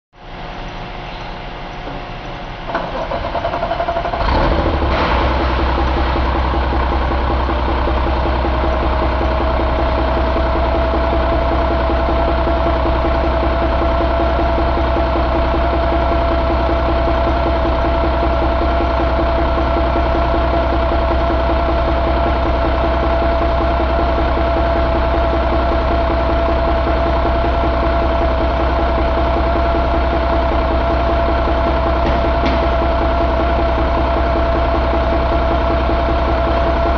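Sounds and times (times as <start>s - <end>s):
diesel engine idling: 0.2s - 36.9s.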